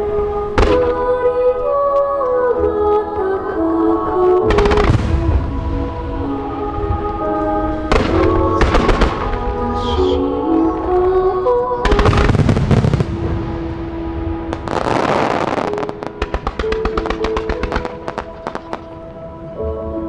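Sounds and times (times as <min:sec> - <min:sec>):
fireworks bursting: 0:00.0 - 0:02.3, 0:04.4 - 0:19.4
fireworks crackling: 0:00.0 - 0:02.3, 0:04.4 - 0:19.4
held musical notes: 0:00.0 - 0:20.0.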